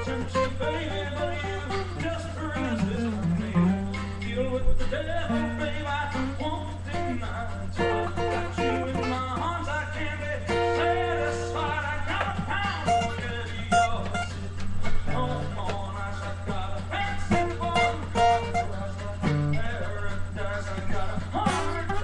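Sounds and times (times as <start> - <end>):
acoustic guitar strummed and picked: 0.0 - 22.0
steady low hum: 0.0 - 22.0.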